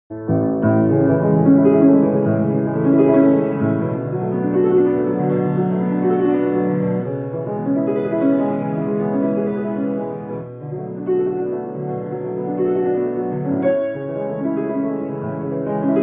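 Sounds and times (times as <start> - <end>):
slow solo piano chords: 0.1 - 16.0.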